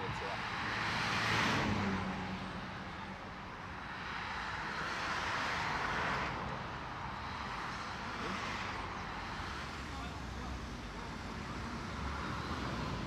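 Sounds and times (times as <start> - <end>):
low rumble of traffic: 0.0 - 13.0
passing vehicle tyre noise: 0.1 - 13.0.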